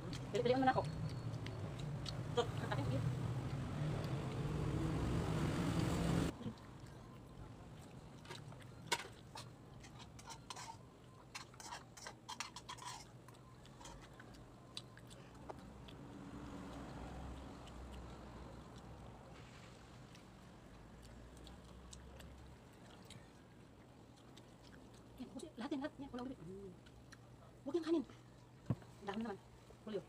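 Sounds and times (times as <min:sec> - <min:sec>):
person chewing food: 0:00.1 - 0:04.8, 0:05.8 - 0:25.4, 0:26.2 - 0:27.6.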